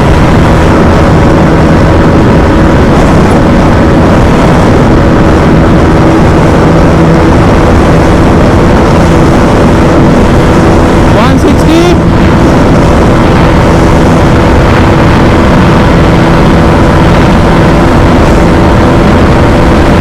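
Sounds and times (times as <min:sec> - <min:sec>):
motorcycle engine drone: 0:00.0 - 0:20.0
wind rush: 0:00.0 - 0:20.0.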